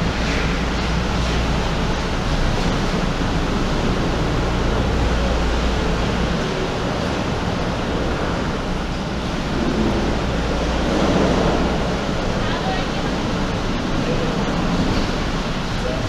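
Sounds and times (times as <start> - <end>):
gondola lift machinery humming: 0.0 - 16.0.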